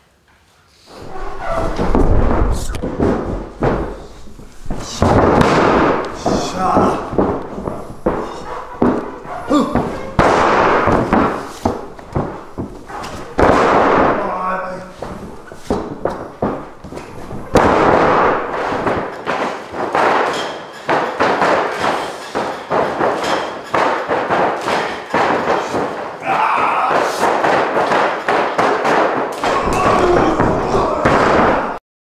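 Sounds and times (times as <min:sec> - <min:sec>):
bodies thudding on wrestling ring: 0:01.0 - 0:31.8.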